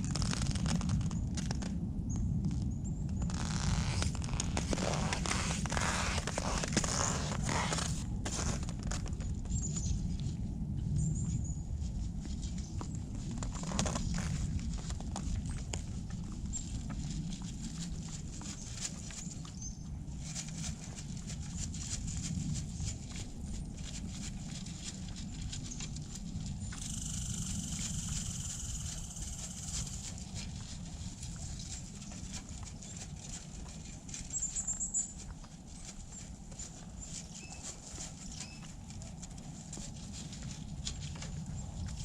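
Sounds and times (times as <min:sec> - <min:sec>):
low rumble: 0:00.0 - 0:33.8
steps crunching in snow: 0:03.2 - 0:42.0.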